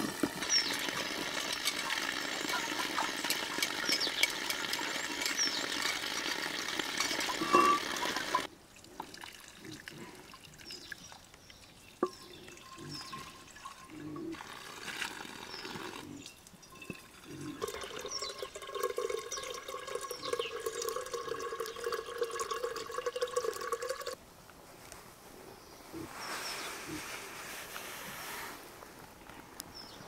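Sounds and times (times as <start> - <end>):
water pouring and dripping: 0.0 - 24.2.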